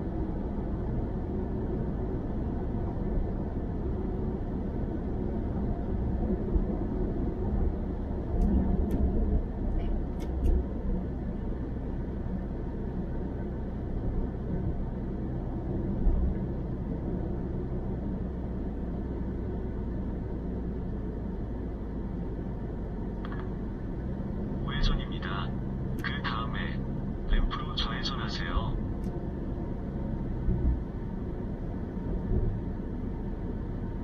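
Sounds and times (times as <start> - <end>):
car tyre and engine rumble: 0.0 - 34.0.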